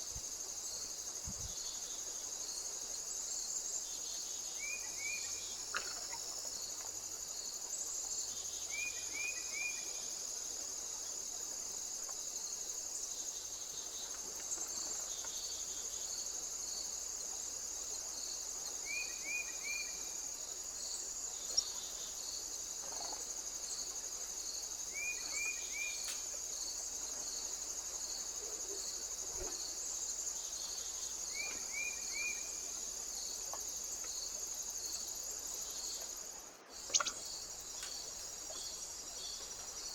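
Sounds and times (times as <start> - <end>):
crickets chirping chorus: 0.0 - 39.9.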